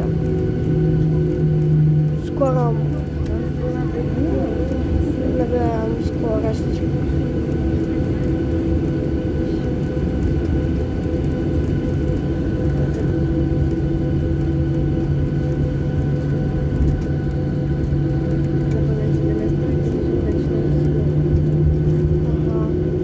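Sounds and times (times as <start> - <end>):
jet engines droning: 0.0 - 23.0.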